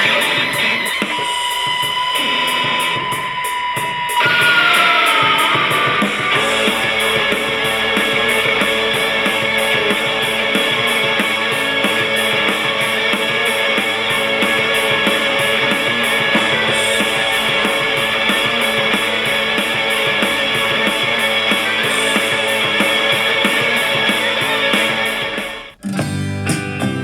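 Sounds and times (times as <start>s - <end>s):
rock music from small speaker: 0.0s - 27.0s.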